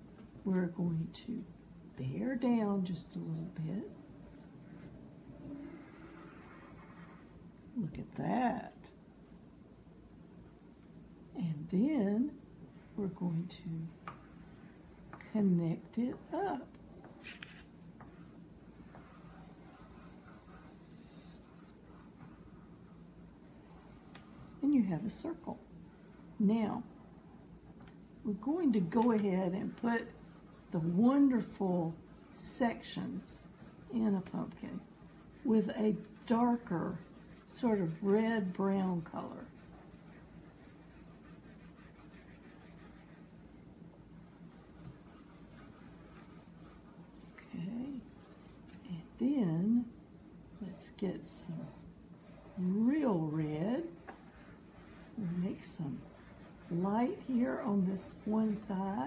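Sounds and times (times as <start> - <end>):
low steady hum: 0.0 - 59.0
chalk pastel scratching on paper: 2.2 - 7.4, 11.8 - 27.4, 28.3 - 59.0.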